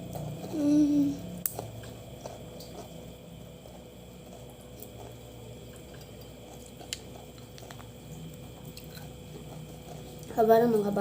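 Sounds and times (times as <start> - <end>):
wet squishy eating sounds: 1.2 - 11.0.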